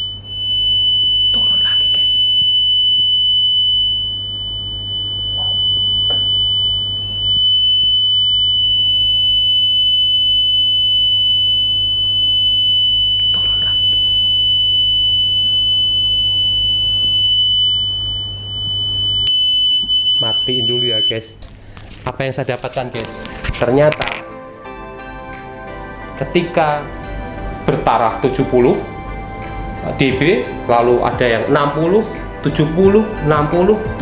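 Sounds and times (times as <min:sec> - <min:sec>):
steady pure tone: 0:00.0 - 0:34.0.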